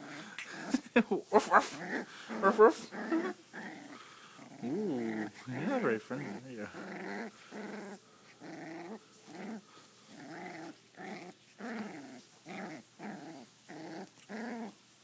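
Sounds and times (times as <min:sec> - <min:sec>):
puppy growling in play: 0:00.0 - 0:14.9.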